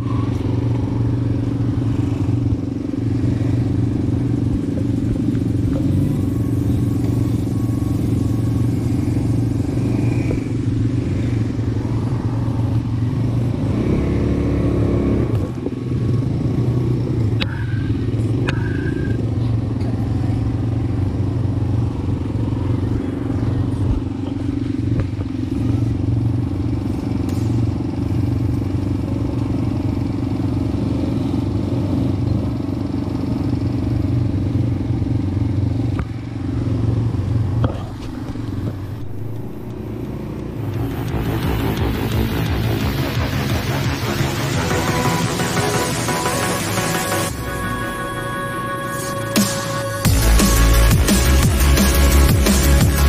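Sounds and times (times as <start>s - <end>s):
atv engine droning: 0.0s - 53.0s.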